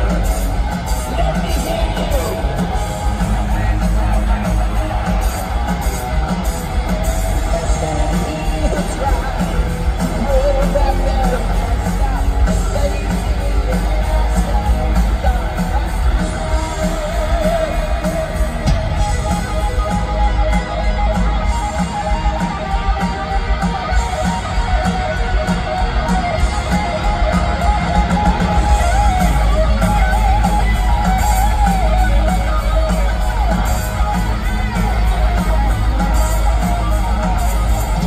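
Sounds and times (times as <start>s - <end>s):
heavy metal band playing live: 0.0s - 38.0s
wavering lead guitar: 0.0s - 38.0s.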